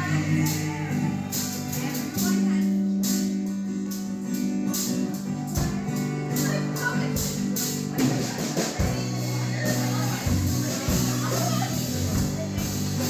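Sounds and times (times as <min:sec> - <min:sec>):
live band held chords: 0:00.0 - 0:13.0
steady drum beat: 0:00.0 - 0:13.0.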